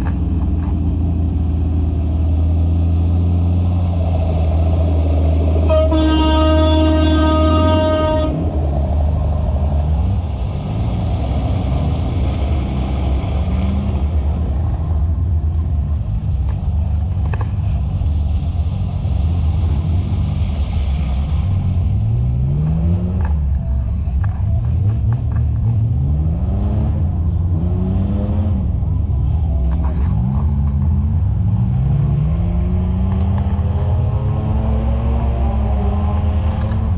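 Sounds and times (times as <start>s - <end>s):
off-road engines revving: 0.0s - 36.9s.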